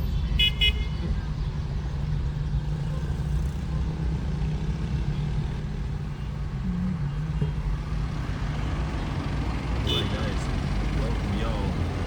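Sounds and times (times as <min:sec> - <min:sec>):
road noise inside car: 0:00.0 - 0:12.0.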